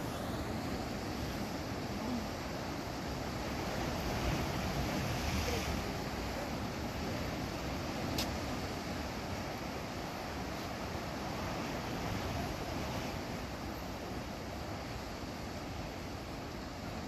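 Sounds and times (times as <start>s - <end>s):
sea surf washing against rocks: 0.0s - 17.0s.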